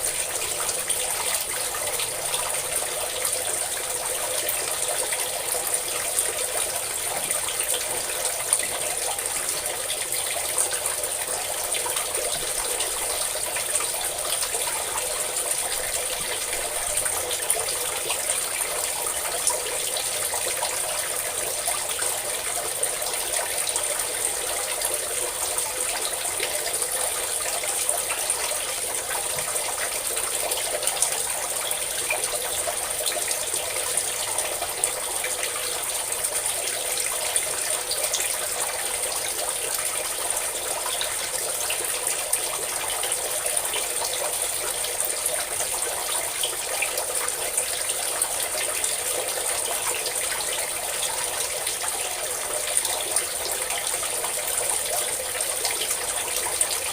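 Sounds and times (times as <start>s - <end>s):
water pouring and splashing: 0.0s - 56.9s.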